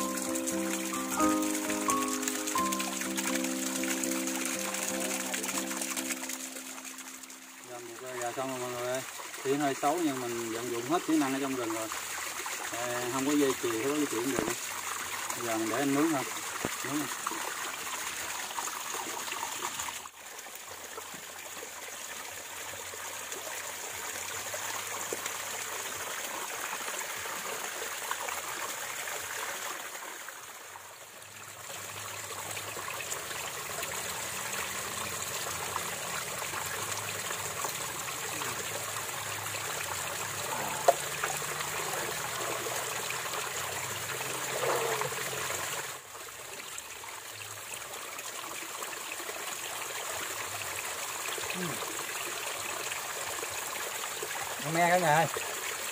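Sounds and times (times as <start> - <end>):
stream trickling: 0.0 - 55.9.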